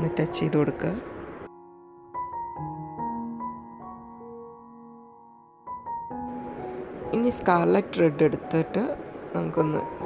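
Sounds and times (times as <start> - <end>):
slow soft background music: 0.0 - 10.0.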